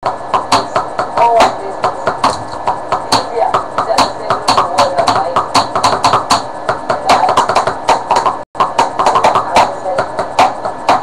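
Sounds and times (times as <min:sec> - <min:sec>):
drumming on plastic containers: 0:00.0 - 0:11.0.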